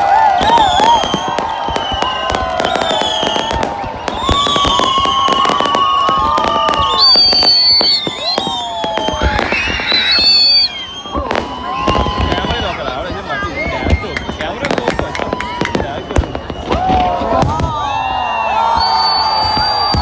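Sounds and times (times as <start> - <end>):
fireworks cracks and bangs: 0.0 - 20.0
fireworks whistling: 0.2 - 20.0.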